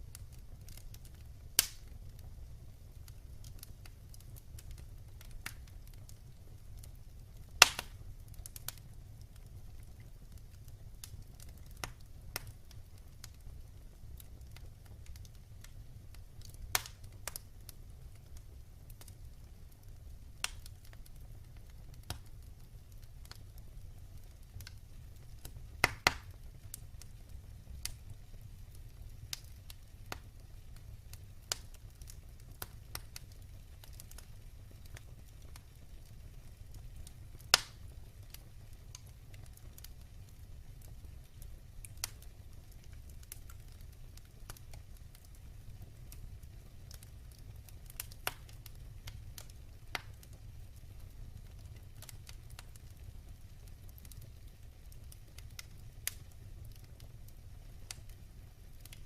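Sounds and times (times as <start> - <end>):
fire crackling and popping: 0.0 - 59.0
fire rumbling in a fireplace: 0.0 - 59.0.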